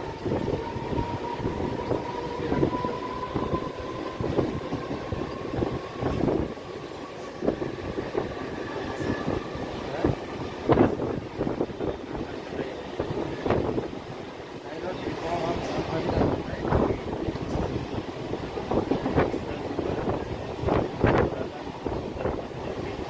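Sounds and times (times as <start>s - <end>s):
train clatter and knocks: 0.0s - 23.0s
train wheels rumbling on rail: 0.0s - 23.0s.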